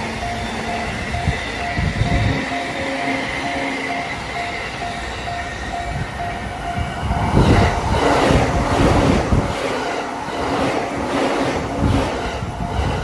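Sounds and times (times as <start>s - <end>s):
level-crossing warning bell: 0.0s - 13.0s
train passing rumble: 0.0s - 13.0s.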